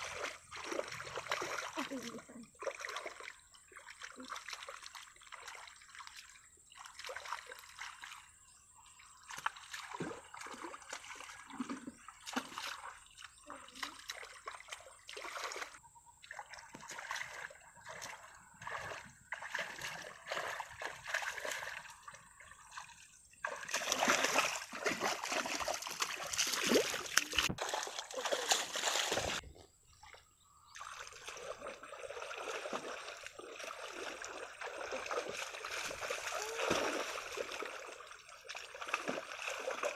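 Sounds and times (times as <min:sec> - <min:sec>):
hands splashing in muddy water: 0:00.0 - 0:08.3, 0:09.2 - 0:29.5, 0:30.8 - 0:39.9.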